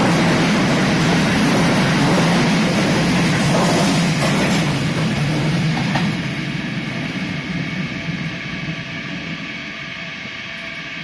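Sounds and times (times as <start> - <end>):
subway train pulling away: 0.0 - 11.0
train whine: 0.0 - 11.0.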